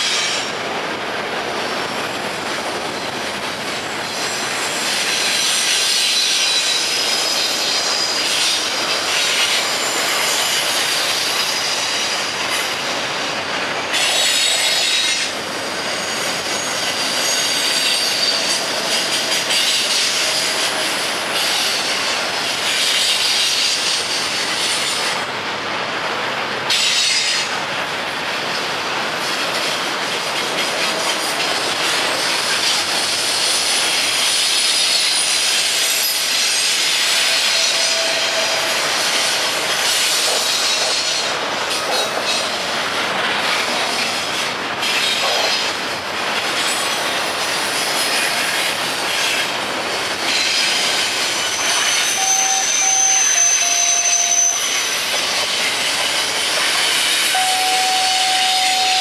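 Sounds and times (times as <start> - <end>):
train wheels rumbling and clacking: 0.0 - 59.0
wheels squealing on rails: 0.0 - 59.0.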